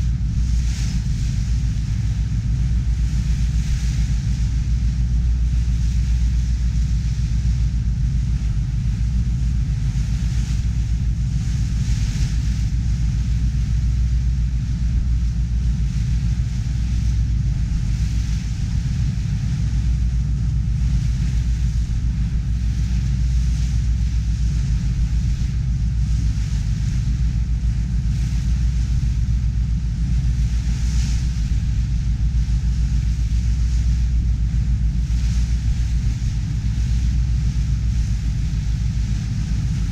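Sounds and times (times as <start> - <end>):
ferry engine droning: 0.0 - 39.9
water and wind hissing: 0.0 - 39.9.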